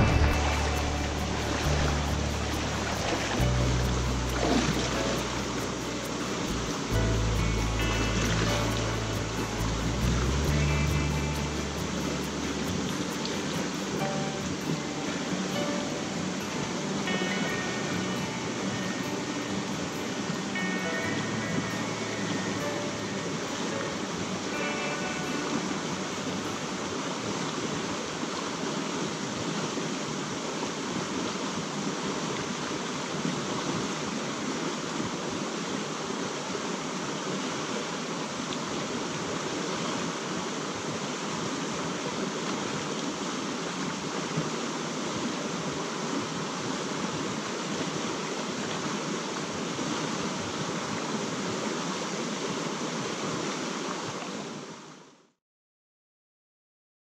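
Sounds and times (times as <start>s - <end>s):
creek water rushing over rocks: 0.0s - 55.2s.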